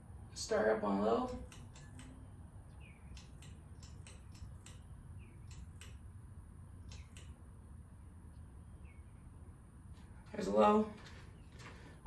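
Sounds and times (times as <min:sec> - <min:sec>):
ceiling fan low hum: 0:00.0 - 0:12.0.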